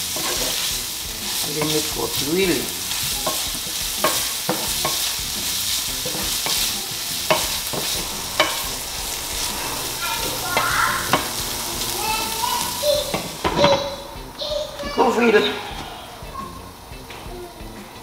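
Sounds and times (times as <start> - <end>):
wooden spoon knocking on pan: 0.0 - 15.0
food sizzling in oil: 0.0 - 18.0.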